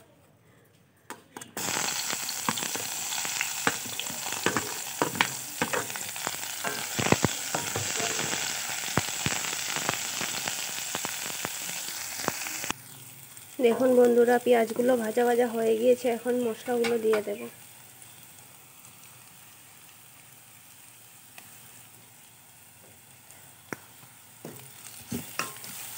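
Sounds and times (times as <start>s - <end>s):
oil crackling: 1.6s - 25.9s
onions sizzling in oil: 1.6s - 25.9s.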